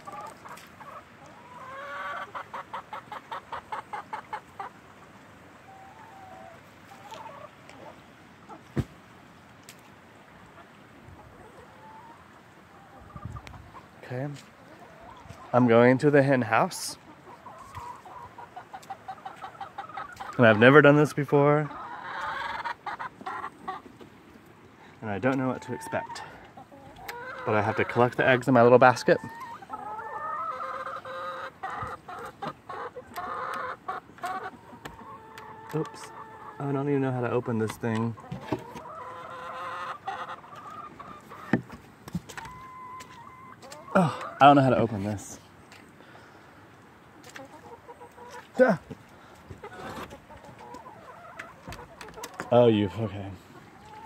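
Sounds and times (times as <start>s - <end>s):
hens clucking: 0.0s - 9.2s, 10.3s - 54.0s
chickens calling: 0.0s - 54.0s.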